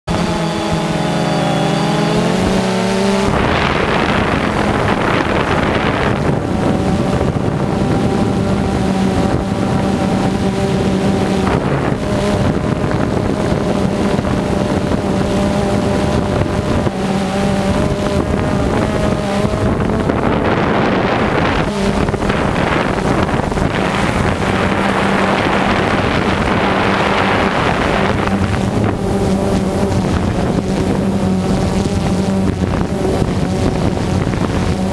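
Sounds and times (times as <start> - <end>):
drone propellers buzzing: 0.0 - 34.9
wind rushing over microphone: 0.0 - 34.9.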